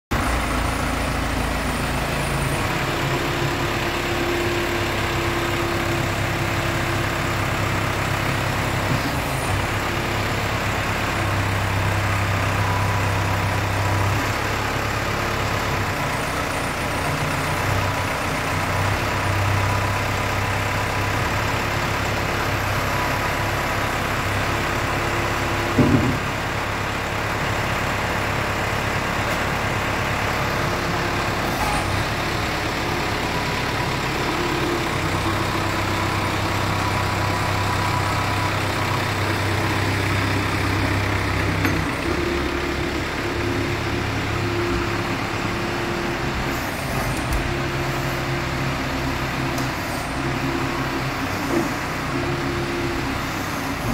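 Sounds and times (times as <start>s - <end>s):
diesel engine idling: 0.1s - 53.9s.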